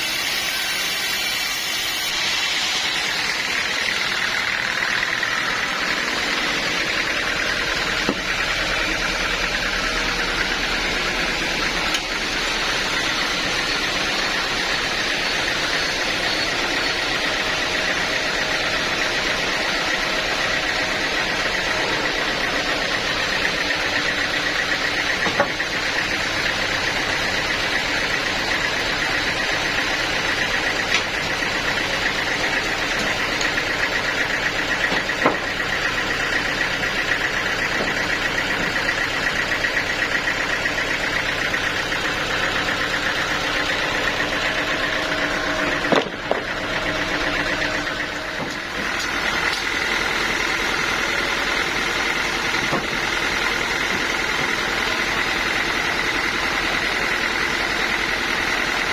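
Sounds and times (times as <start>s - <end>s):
sawmill machinery whining: 0.0s - 58.9s.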